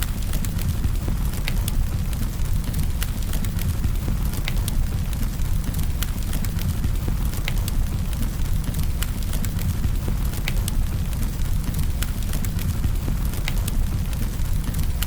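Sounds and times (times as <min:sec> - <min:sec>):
burning wood crackling: 0:00.0 - 0:15.0
low rumble of flames: 0:00.0 - 0:15.0.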